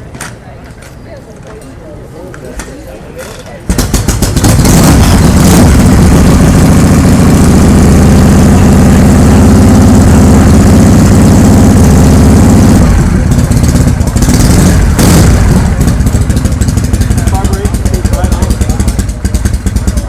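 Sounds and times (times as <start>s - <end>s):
motorcycle engine running loudly: 3.7s - 20.0s.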